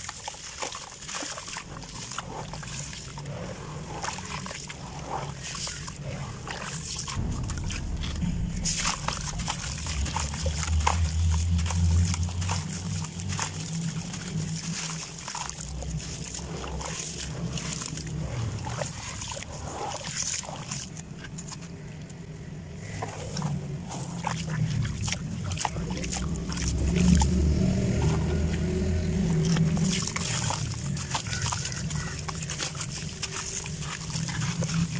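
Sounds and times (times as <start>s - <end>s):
water sloshing and splattering: 0.0s - 34.9s
low rumble: 3.2s - 19.7s, 20.5s - 32.1s.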